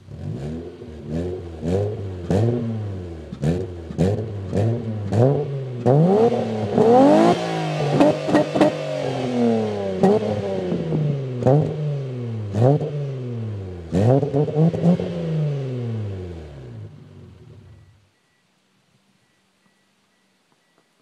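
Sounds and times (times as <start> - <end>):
car engine revving: 0.0 - 17.8.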